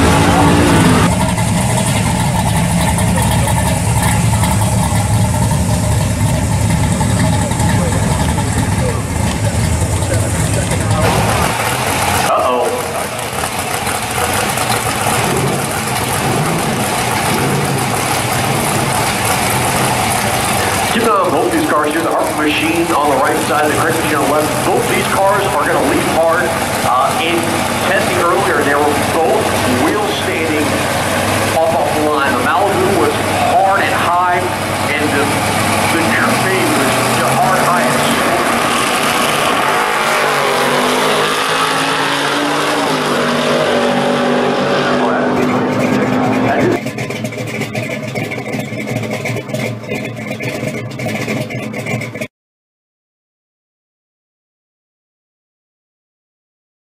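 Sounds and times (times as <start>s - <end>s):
car engines idling: 0.0s - 52.3s.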